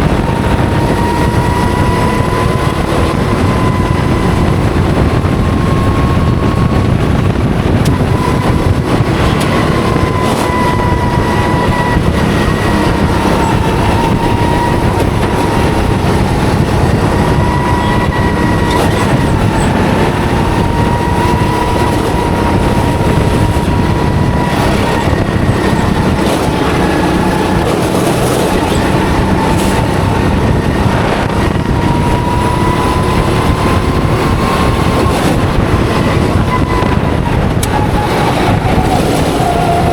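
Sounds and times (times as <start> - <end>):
go-kart engine drone and whine: 0.0 - 39.9
rushing wind: 0.0 - 39.9.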